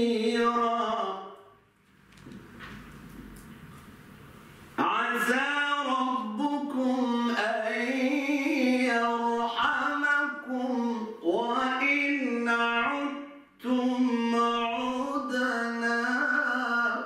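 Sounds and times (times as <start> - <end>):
man chanting melodically: 0.0 - 1.6, 4.8 - 17.0.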